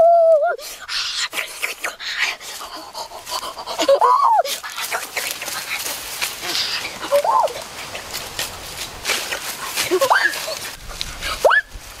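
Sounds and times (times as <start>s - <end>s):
footsteps through dry grass: 0.6s - 12.0s.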